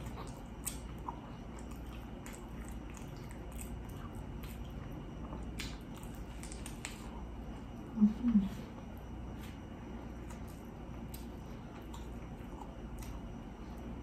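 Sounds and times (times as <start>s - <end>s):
chewing: 0.0s - 7.8s, 8.5s - 14.0s.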